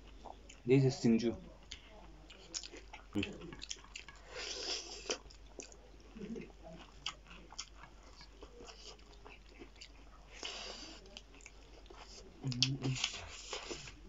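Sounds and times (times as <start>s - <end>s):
chewing: 0.0s - 0.6s, 1.4s - 14.0s.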